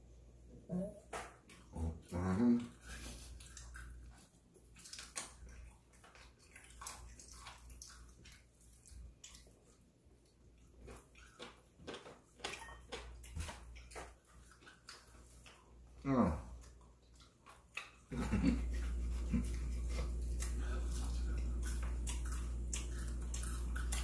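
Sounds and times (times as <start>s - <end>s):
low steady hum: 0.0s - 24.0s
people chewing crunchy food: 1.2s - 24.0s.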